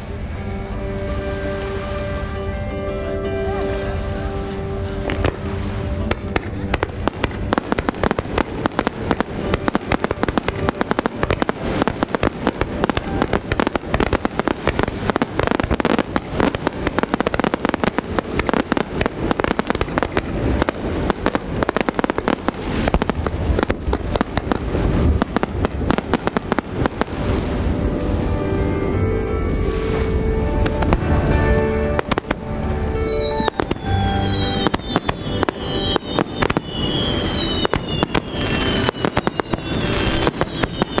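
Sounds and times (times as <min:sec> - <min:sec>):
fireworks bangs and crackling: 0:01.1 - 0:28.9, 0:29.5 - 0:41.0.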